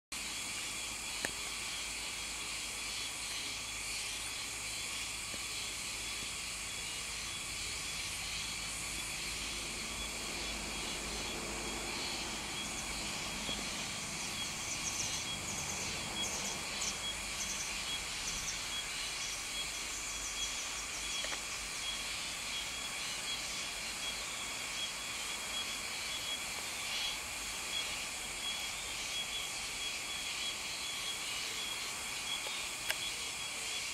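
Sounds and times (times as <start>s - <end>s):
high insect-like drone: 0.2s - 33.9s.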